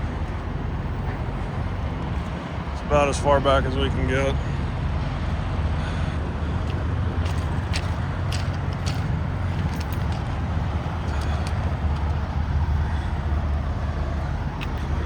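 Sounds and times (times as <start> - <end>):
diesel truck engines idling: 0.0 - 15.0.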